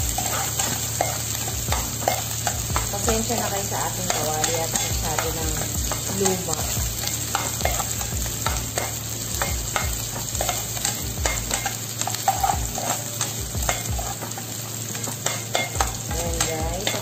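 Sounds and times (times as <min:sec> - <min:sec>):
onions sizzling in hot oil: 0:00.0 - 0:17.0
spoon scraping a pan: 0:00.0 - 0:17.0.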